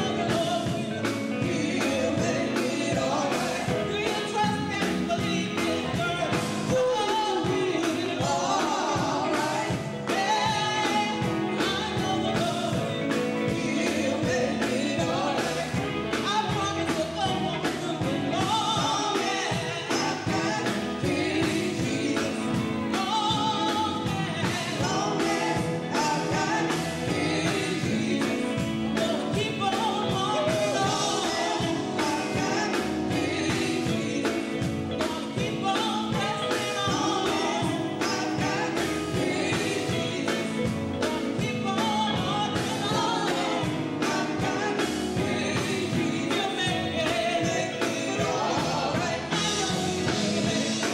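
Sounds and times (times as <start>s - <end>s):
bass guitar: 0.0s - 50.9s
drum kit beat: 0.0s - 50.9s
electric guitar: 0.0s - 50.9s
women singing gospel together: 0.0s - 50.9s.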